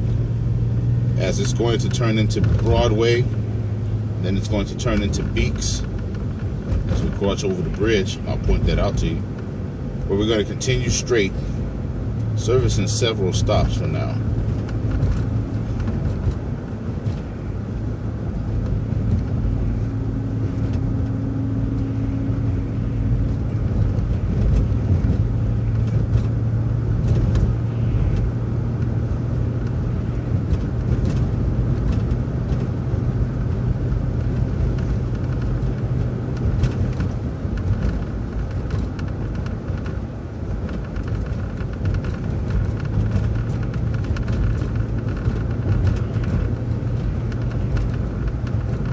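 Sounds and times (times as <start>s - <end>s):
bus engine drone: 0.0s - 48.9s
road rumble: 0.0s - 48.9s.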